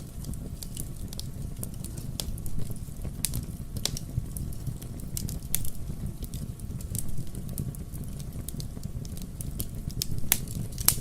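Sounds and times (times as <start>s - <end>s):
fire crackling with pops: 0.0s - 11.0s
low rumble of burning: 0.0s - 11.0s.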